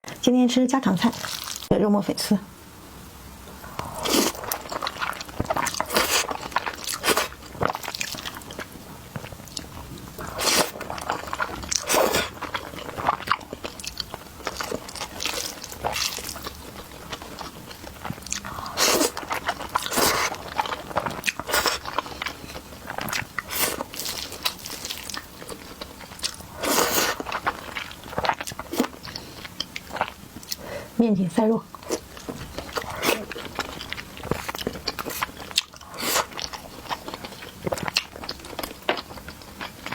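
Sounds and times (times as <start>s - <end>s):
person chewing food: 3.5s - 30.7s, 31.7s - 39.9s.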